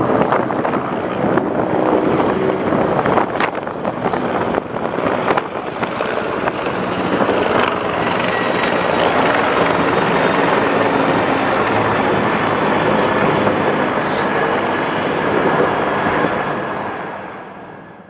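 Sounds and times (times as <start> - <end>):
helicopters droning overhead: 0.0 - 18.0.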